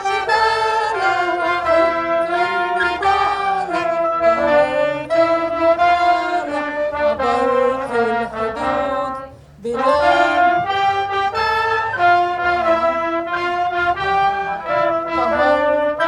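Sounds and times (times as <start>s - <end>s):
brass instruments playing melody: 0.0s - 16.0s.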